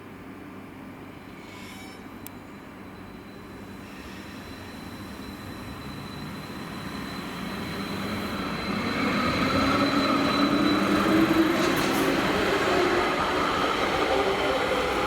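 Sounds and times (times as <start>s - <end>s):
rail vehicle wheel rumble: 0.0s - 15.0s.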